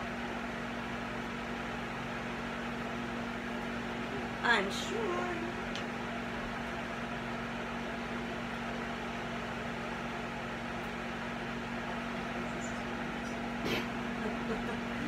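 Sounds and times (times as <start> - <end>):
range hood fan whirring: 0.0 - 15.0.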